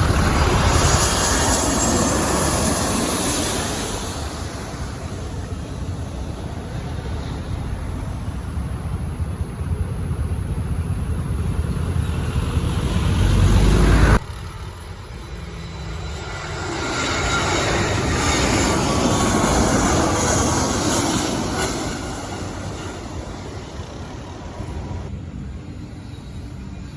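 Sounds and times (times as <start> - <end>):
jet engine rumble: 0.0 - 26.9
jet roar with faint whine: 0.0 - 26.9.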